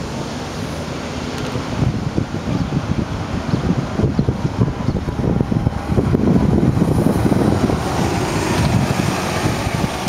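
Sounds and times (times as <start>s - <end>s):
bus engine and tyres rumbling: 0.0s - 10.0s
wind buffeting microphone: 0.2s - 10.0s.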